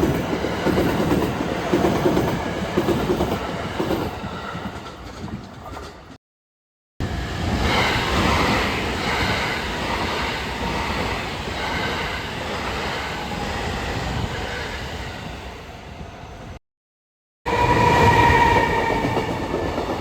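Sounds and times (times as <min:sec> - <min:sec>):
train wheels rumbling on rails: 0:00.0 - 0:06.2, 0:07.1 - 0:16.4, 0:17.5 - 0:20.0.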